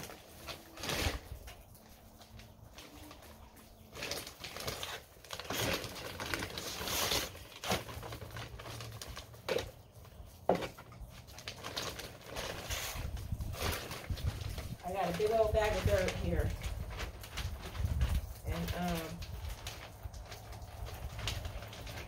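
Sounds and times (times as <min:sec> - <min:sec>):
soil bag rustling and scraping: 0:00.0 - 0:22.0.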